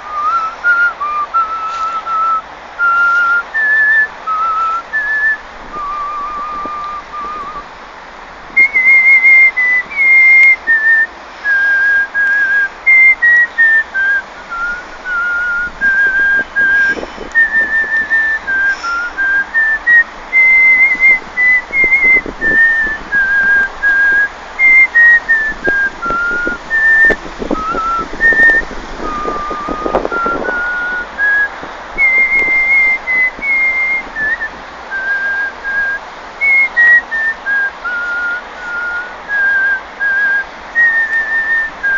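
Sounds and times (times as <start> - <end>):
man whistling a tune: 0.0 - 7.7, 8.6 - 41.9.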